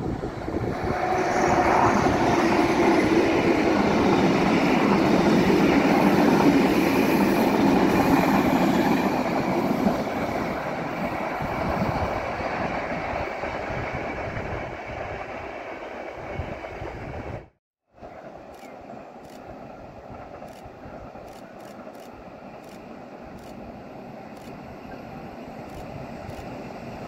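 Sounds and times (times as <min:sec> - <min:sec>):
passenger train wheels rumbling: 0:00.0 - 0:27.0.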